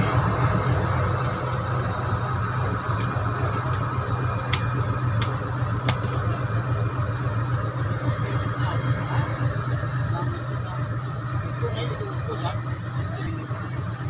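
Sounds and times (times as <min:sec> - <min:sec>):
locomotive engine humming: 0:00.0 - 0:14.0.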